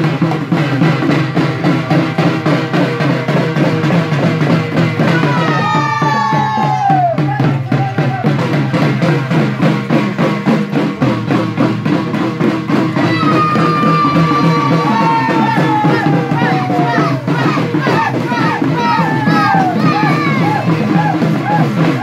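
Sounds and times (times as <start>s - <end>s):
hand drums in dance rhythm: 0.0s - 22.0s.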